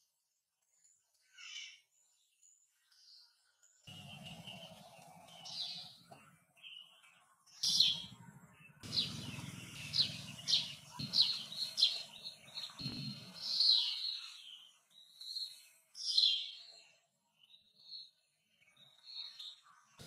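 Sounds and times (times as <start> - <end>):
bird singing high chirps: 1.1 - 20.0.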